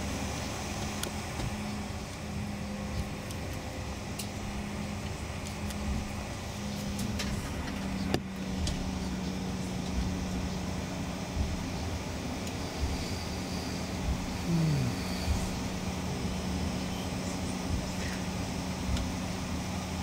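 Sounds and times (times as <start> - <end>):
jet engines humming: 0.0 - 20.0.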